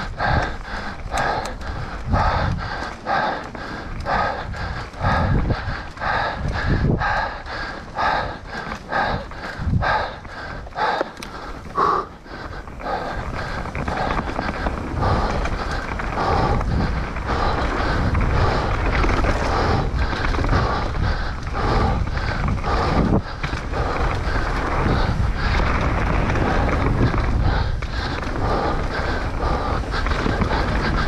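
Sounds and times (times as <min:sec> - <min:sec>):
bike rattling: 0:00.0 - 0:31.0
bike tyres rolling over dirt: 0:00.0 - 0:31.0
wind rumble on microphone: 0:00.0 - 0:31.0.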